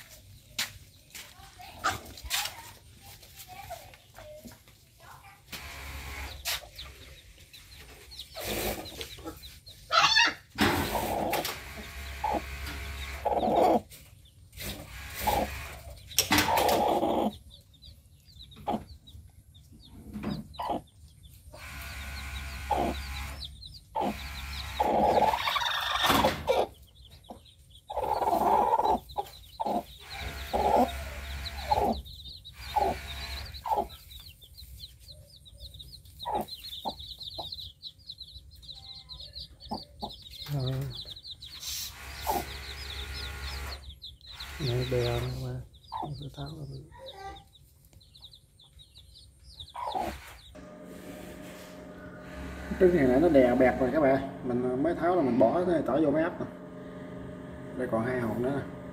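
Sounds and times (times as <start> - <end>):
chicks peeping: 0.0 - 58.9
hen clucking: 5.2 - 58.9.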